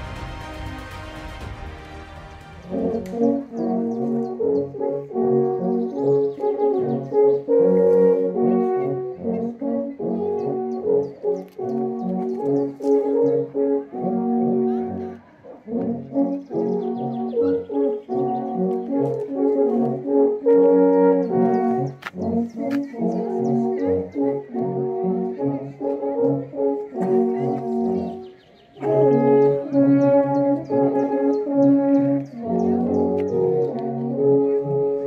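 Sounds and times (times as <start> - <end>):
alphorn ensemble playing chords: 0.0 - 35.0.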